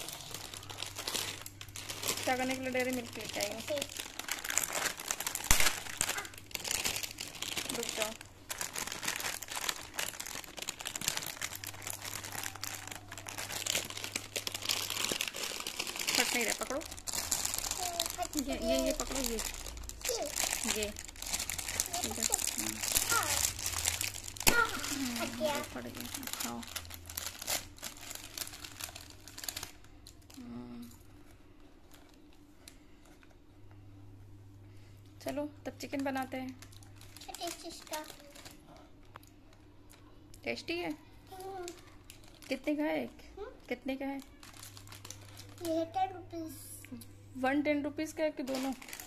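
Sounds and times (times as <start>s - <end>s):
plastic wrapper crinkling: 0.0s - 33.3s, 35.8s - 46.5s, 48.4s - 49.0s.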